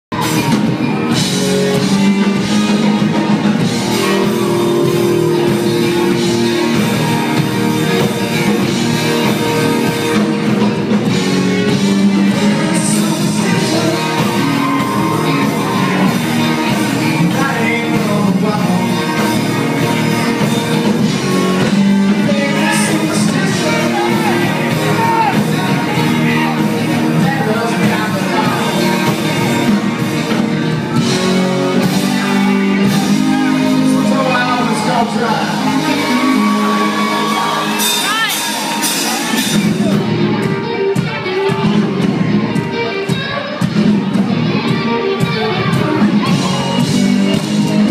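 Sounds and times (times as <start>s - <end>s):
drums: 0.0s - 47.9s
electric guitars: 0.1s - 47.9s
lead singer: 0.2s - 47.9s.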